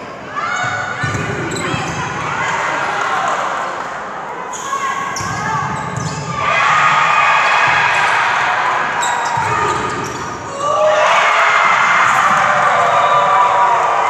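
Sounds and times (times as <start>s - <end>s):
crowd shouting and cheering: 0.0s - 14.0s.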